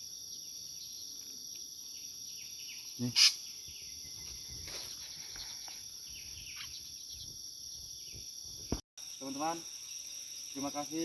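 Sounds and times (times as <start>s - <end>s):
insect chorus droning: 0.0s - 11.0s.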